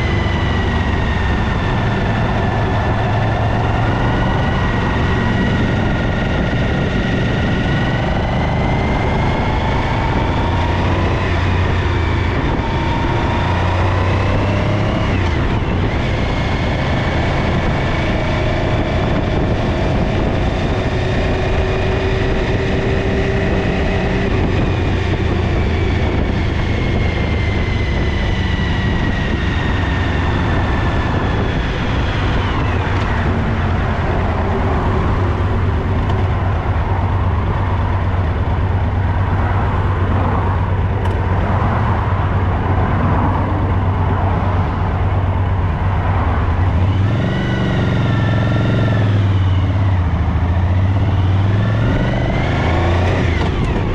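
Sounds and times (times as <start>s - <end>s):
vehicle engine whining: 0.0s - 53.9s.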